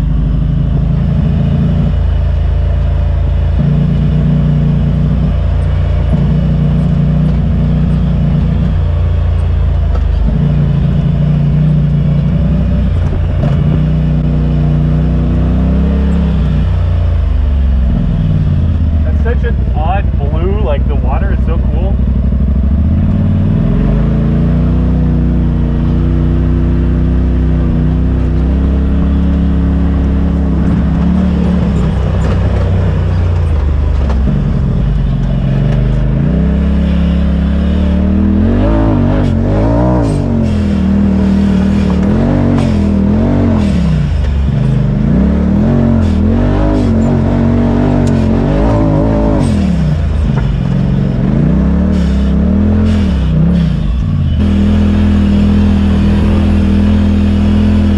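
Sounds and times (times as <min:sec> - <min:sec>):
engine revving under load: 0:00.0 - 0:57.9.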